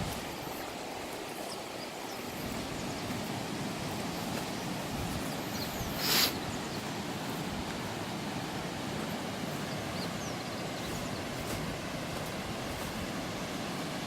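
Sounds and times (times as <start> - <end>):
open air rushing noise: 0.0 - 14.0.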